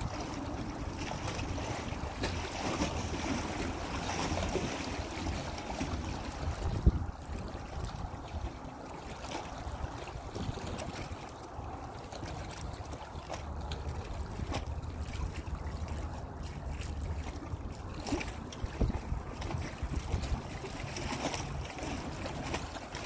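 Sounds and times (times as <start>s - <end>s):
small waves lapping and splashing: 0.0s - 23.0s
wind buffeting microphone: 0.0s - 23.0s.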